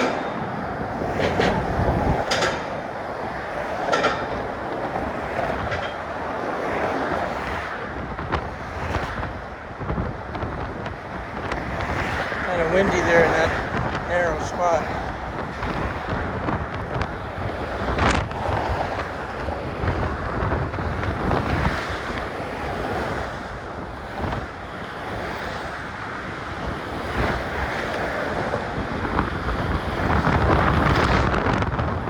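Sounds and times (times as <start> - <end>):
wind buffeting phone microphone: 0.0 - 32.0.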